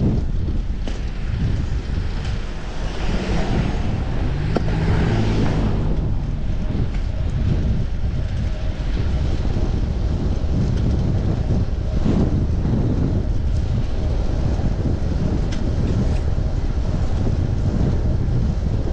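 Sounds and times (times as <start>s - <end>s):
wind buffeting microphone: 0.0s - 18.9s
passing vehicle engine hum: 1.0s - 18.4s.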